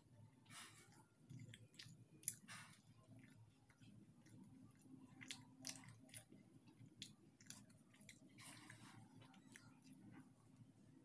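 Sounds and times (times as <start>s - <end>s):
person chewing food: 0.4s - 10.6s.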